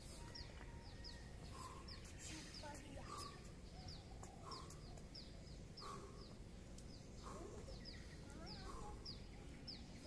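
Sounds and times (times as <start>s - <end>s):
high falling bird chirp: 0.0s - 10.0s
lower wavering bird calls: 0.0s - 10.0s.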